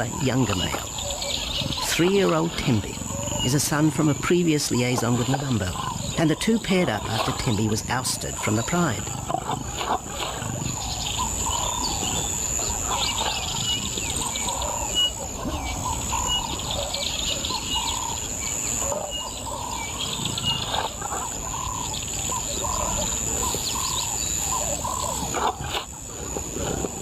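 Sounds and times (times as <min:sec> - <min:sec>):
birds chirping: 0:00.0 - 0:27.0
high-pitched insect drone: 0:00.0 - 0:27.0.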